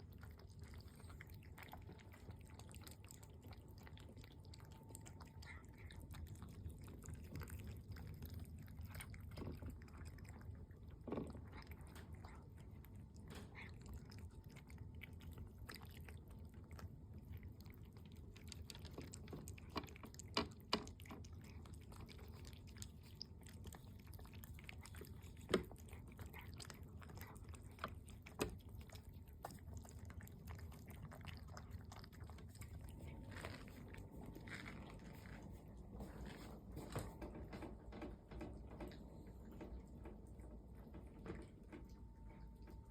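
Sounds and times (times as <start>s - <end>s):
cats chewing food: 0.0s - 42.9s.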